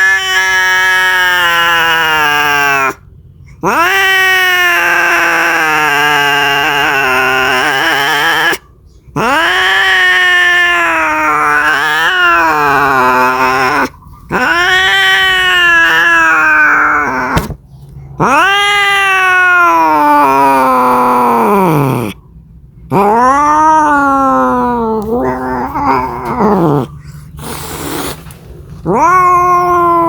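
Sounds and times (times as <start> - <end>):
cat yowling: 0.0 - 3.0, 3.6 - 17.6, 18.2 - 22.2, 22.9 - 28.0, 28.8 - 30.0.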